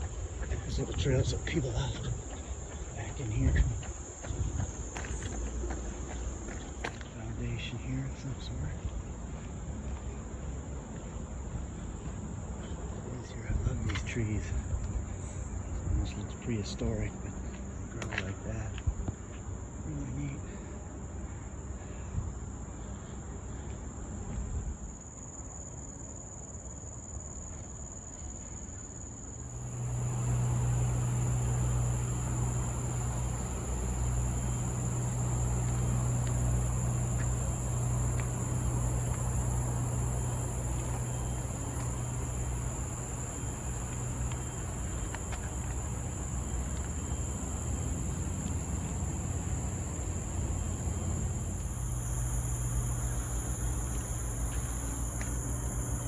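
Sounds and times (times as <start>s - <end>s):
higher insect tone: 0.0s - 9.4s, 19.6s - 56.0s
steady low rumble: 0.0s - 19.0s, 29.4s - 56.0s
insects chirring: 0.0s - 56.0s.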